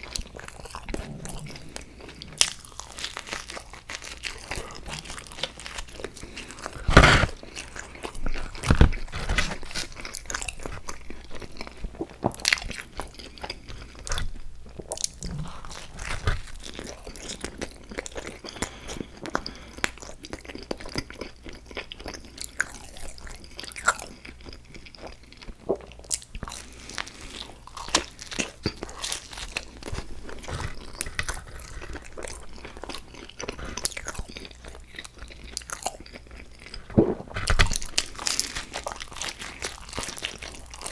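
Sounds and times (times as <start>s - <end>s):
crunchy bites and chewing: 0.1s - 14.2s, 14.8s - 40.9s.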